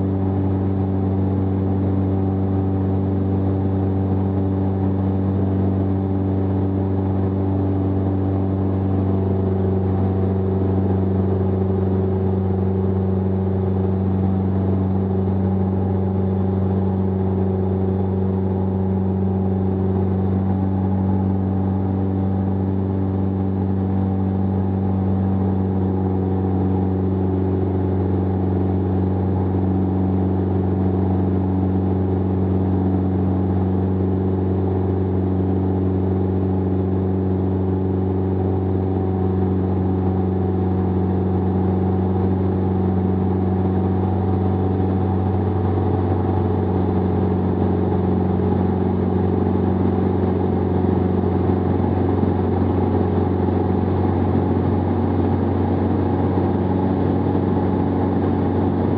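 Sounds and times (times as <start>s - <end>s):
aircraft engine droning: 0.0s - 58.9s.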